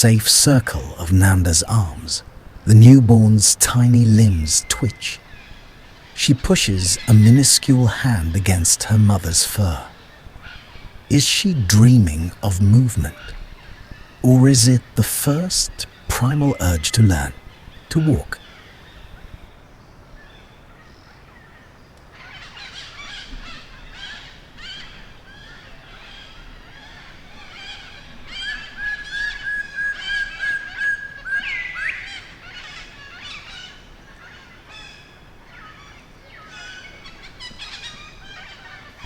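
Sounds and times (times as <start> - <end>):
forest birds calling: 0.0 - 39.0.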